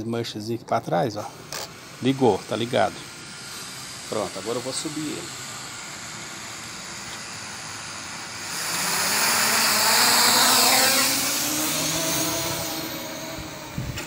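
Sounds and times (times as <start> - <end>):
drone propellers buzzing whir: 1.2 - 14.0.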